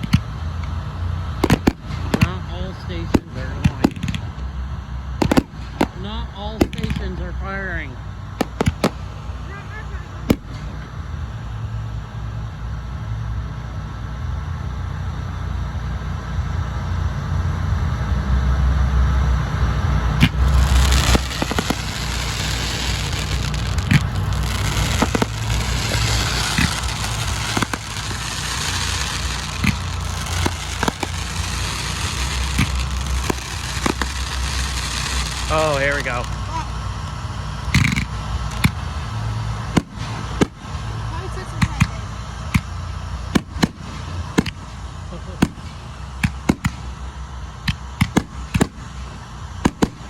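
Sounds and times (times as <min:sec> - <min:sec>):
fireworks crackling: 0:00.0 - 0:50.0
fireworks sharp reports: 0:00.0 - 0:50.0
steady low rumble: 0:00.0 - 0:50.0.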